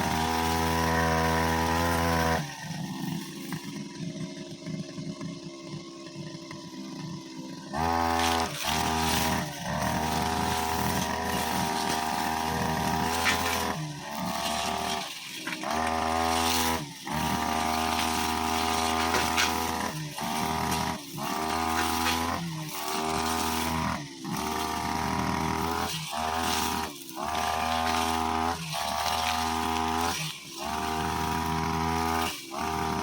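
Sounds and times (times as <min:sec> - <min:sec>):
brushcutter engine revving: 0:00.0 - 0:33.0.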